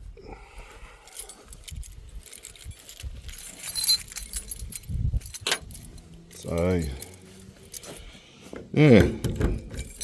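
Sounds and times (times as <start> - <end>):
keys jangling: 1.0 - 10.0.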